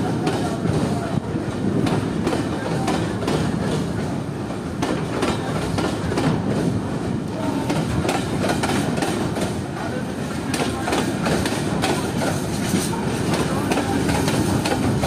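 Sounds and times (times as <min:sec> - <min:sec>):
train wheels clattering over rails: 0:00.0 - 0:15.0.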